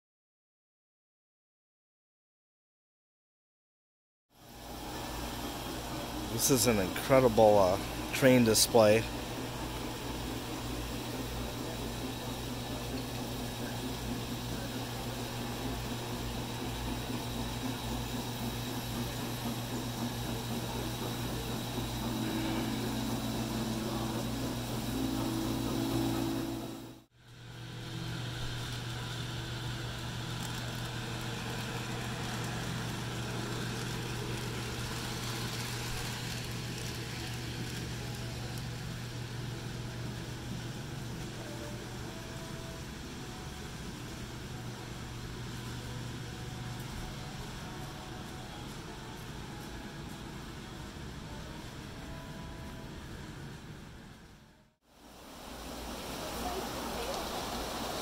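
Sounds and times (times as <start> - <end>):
low mechanical hum: 4.4 - 58.0.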